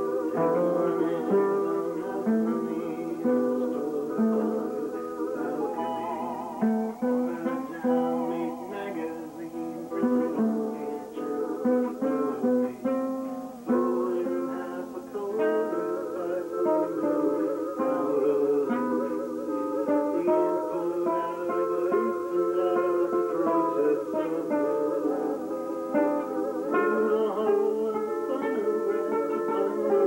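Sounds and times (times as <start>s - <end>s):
plucked string instruments: 0.0s - 30.0s.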